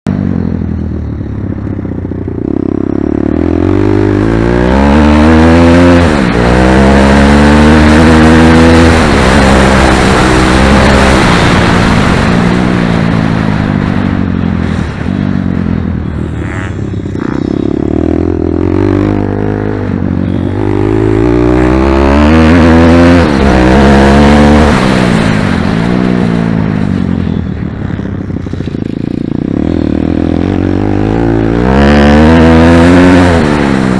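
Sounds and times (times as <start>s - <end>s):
pit bike engine accelerating: 0.1s - 33.9s.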